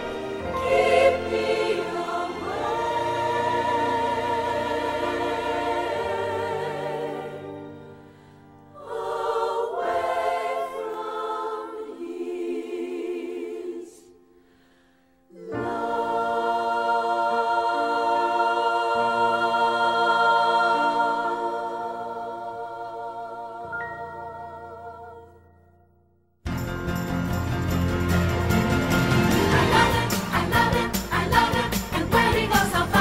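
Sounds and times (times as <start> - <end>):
gospel choir singing: 0.0 - 14.6, 15.3 - 25.6, 28.9 - 33.0.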